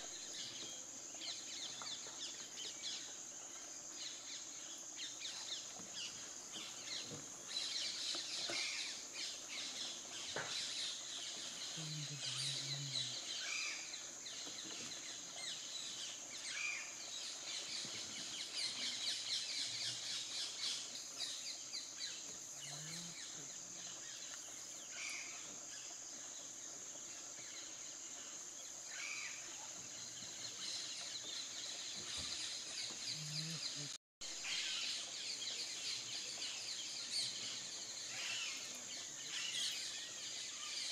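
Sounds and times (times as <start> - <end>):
steady high-pitched hiss: 0.0 - 40.9.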